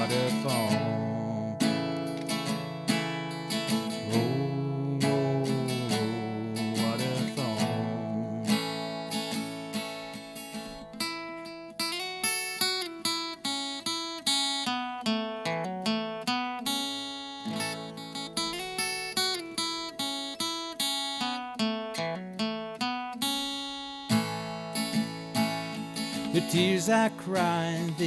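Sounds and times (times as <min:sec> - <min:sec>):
acoustic guitar picking melody: 0:00.0 - 0:28.0.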